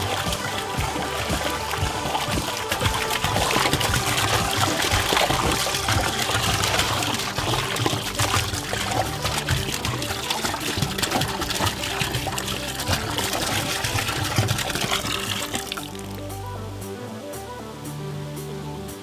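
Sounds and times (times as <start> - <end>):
soda pouring into metal barrel: 0.0 - 16.3
soda fizzing: 0.0 - 16.6
background music: 0.0 - 19.0.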